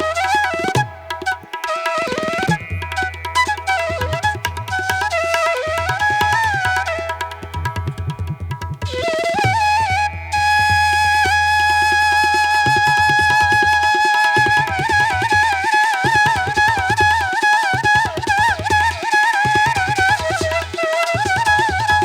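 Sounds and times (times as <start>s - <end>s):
flute melody: 0.0s - 22.0s.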